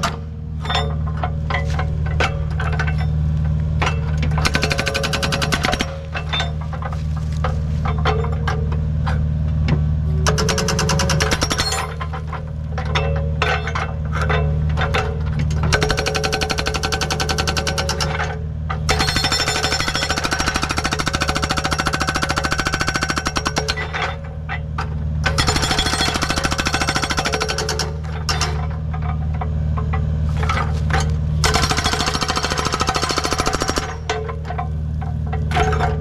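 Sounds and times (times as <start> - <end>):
diesel engine running: 0.0 - 36.0
hydraulic breaker pounding rock: 3.8 - 36.0.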